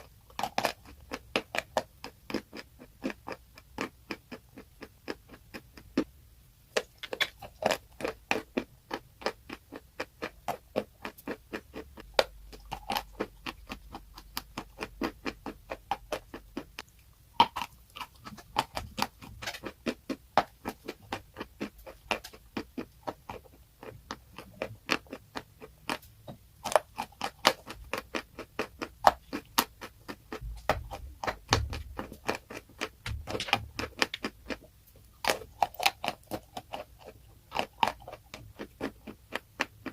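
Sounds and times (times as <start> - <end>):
crunching of brittle food chewed: 0.0 - 39.9.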